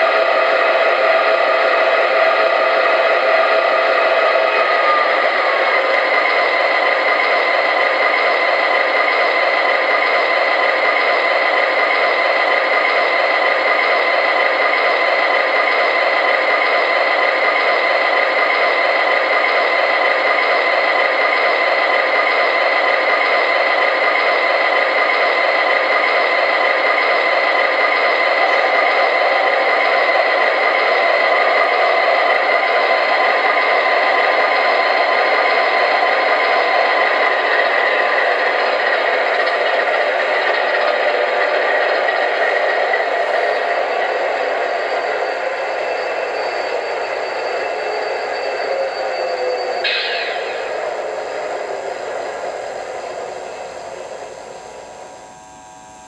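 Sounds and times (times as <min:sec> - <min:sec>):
model locomotive running on track: 0:00.0 - 0:56.0.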